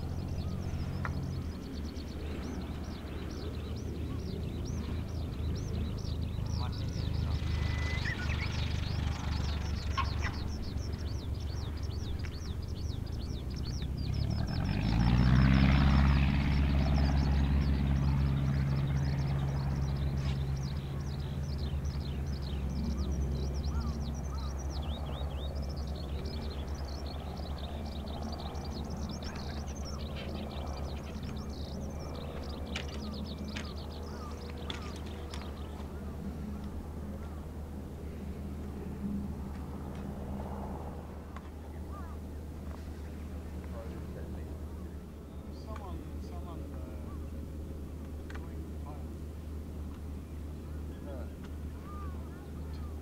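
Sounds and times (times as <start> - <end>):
engine running and revving: 0.0 - 44.7
birds chirping: 0.0 - 53.0.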